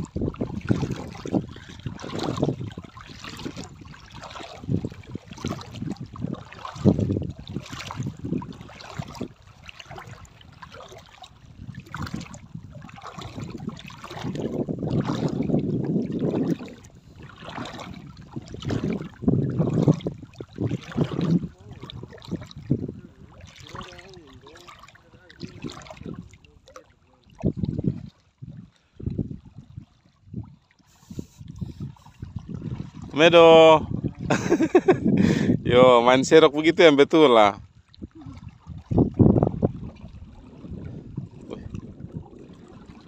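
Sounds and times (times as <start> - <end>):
rush of water: 0.0 - 43.0
seawater splashing: 0.0 - 43.0.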